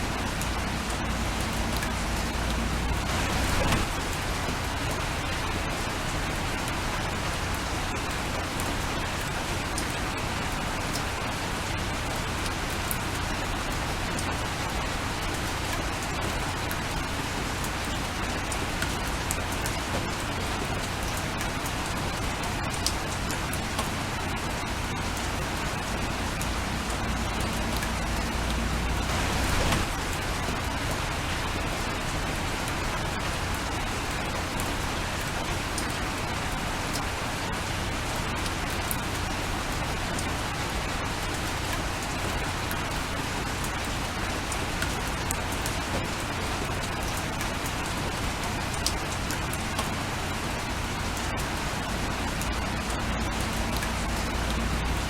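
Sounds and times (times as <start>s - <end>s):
rain falling: 0.0s - 55.0s
raindrop ticks: 0.1s - 55.0s.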